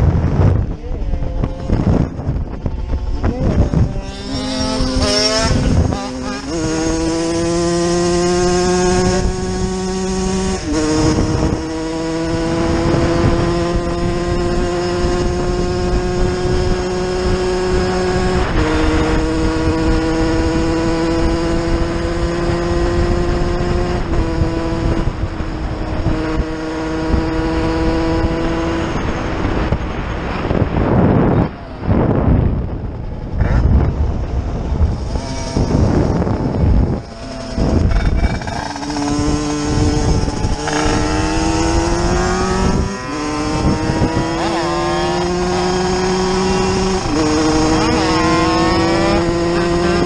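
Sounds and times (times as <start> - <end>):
motorcycle engine shifting gears: 0.0 - 50.0.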